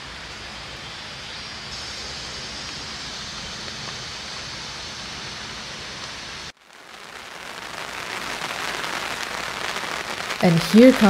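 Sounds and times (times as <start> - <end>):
steady hiss: 0.0 - 11.0
rain pattering on a surface: 1.4 - 11.0.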